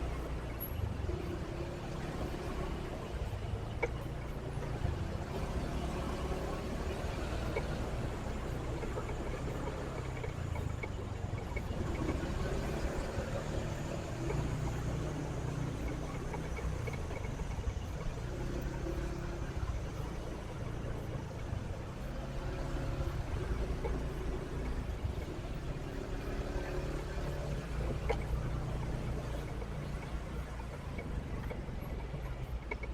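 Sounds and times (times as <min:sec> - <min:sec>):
road and wind noise: 0:00.0 - 0:32.9.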